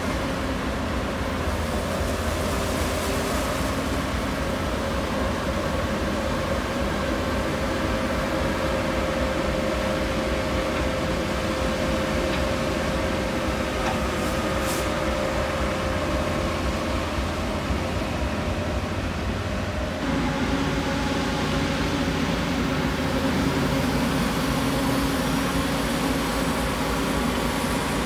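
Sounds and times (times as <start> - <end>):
diesel locomotive whine: 0.0 - 28.0.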